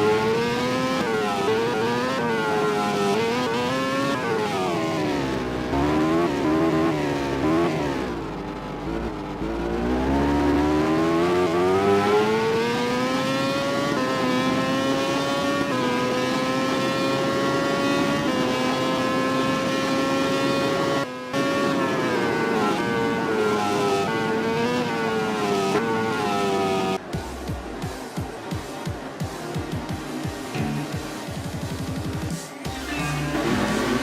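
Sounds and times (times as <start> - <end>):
racing motorcycle engine revving: 0.0 - 34.0.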